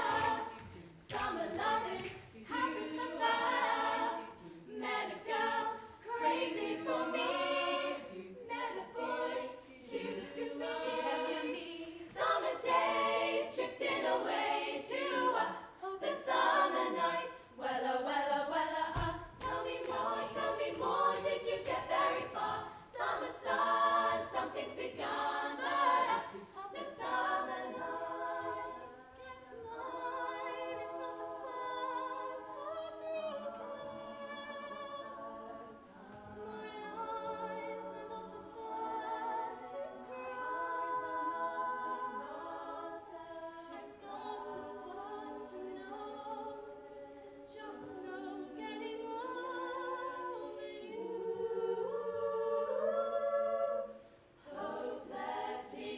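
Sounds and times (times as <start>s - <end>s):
girls singing a cappella harmony: 0.0s - 55.9s.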